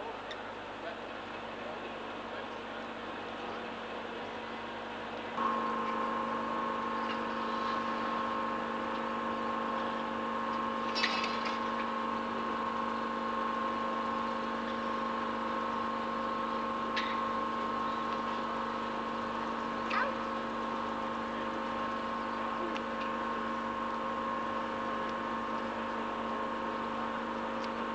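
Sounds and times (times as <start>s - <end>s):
diesel locomotive engine whine: 0.0s - 27.9s.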